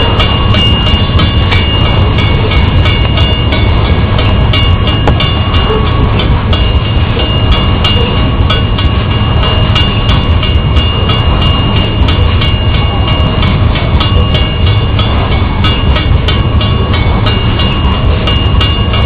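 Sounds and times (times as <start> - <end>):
crossing signal bell ringing: 0.0 - 19.0
train wheels rumbling on rails: 0.0 - 19.0.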